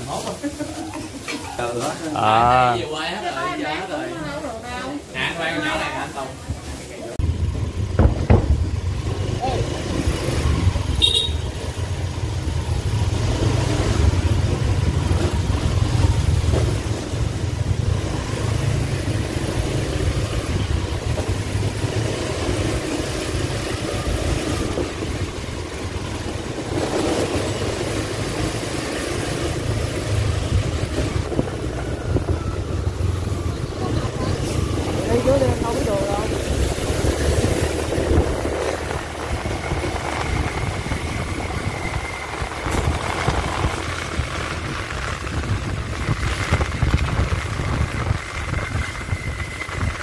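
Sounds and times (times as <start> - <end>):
other motorbikes in traffic: 0.0 - 50.0
wind rumbling on microphone: 7.2 - 11.1, 11.9 - 50.0.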